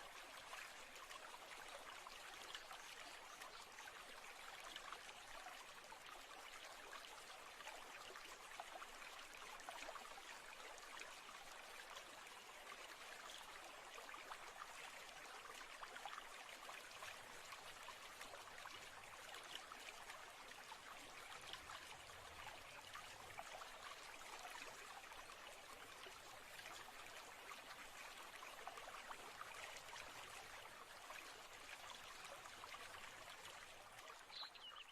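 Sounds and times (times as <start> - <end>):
stream trickling: 0.0 - 34.9.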